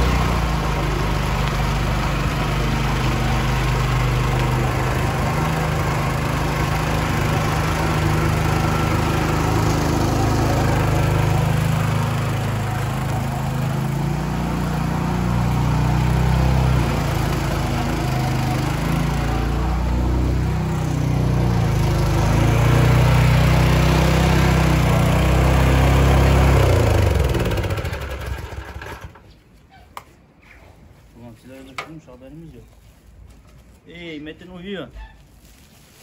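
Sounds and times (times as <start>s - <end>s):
motor engine running: 0.0s - 29.2s.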